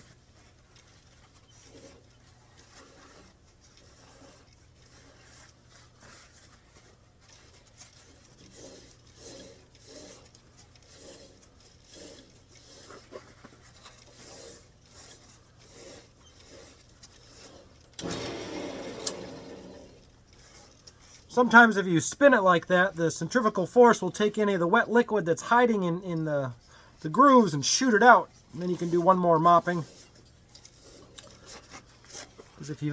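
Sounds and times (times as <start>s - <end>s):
paper towel wiping wood: 0.1s - 17.7s, 19.8s - 32.9s
wood lathe spinning: 0.3s - 32.9s.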